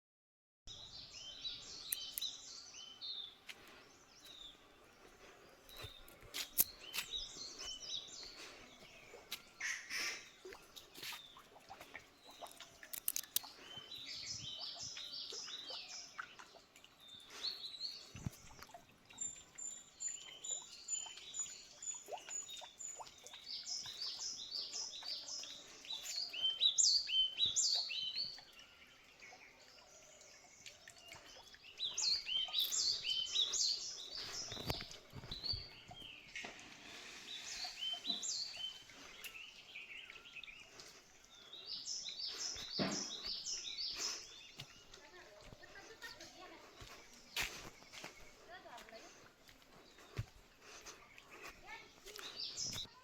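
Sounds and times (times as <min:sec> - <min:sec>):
small birds chirping and singing: 0:00.7 - 0:53.0.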